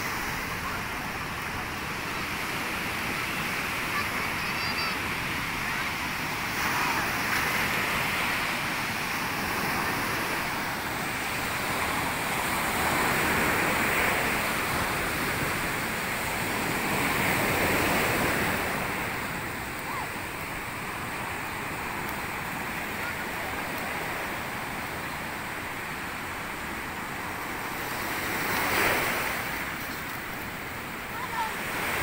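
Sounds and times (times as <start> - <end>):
ocean surf washing on beach: 0.0 - 32.0.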